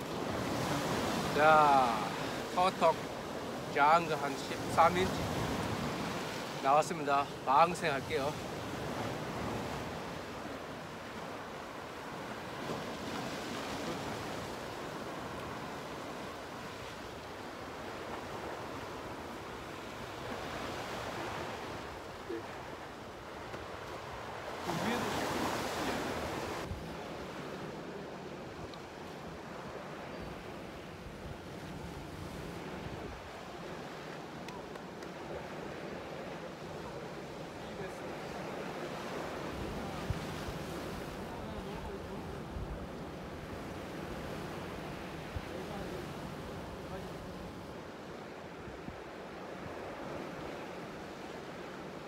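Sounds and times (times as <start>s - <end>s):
surf washing over rocks: 0.0s - 52.0s.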